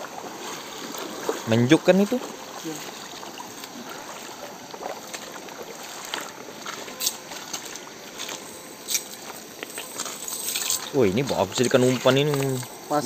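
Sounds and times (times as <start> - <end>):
water around a boat: 0.0 - 13.0.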